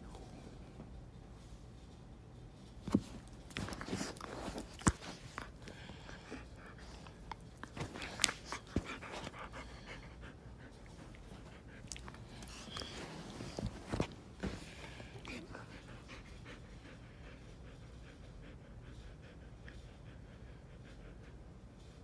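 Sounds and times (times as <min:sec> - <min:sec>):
dog breathing and mouthing: 0:02.9 - 0:21.4.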